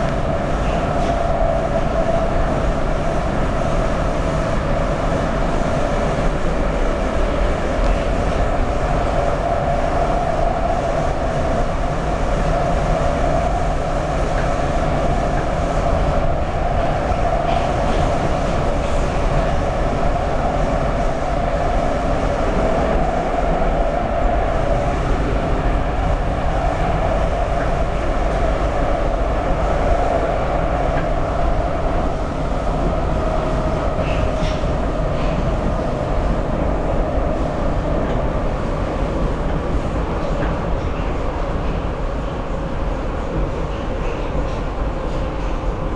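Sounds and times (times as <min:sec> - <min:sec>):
constant train hum: 0:00.0 - 0:45.9
wheels rumbling on rail: 0:00.0 - 0:45.9.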